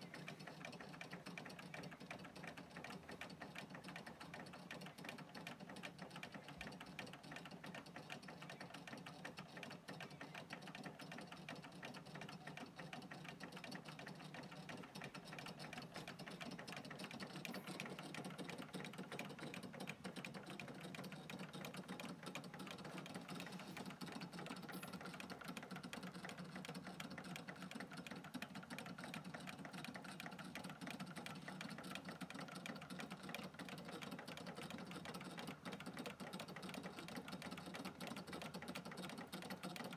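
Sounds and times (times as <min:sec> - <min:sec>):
toy engines mechanical clatter: 0:00.0 - 0:39.9.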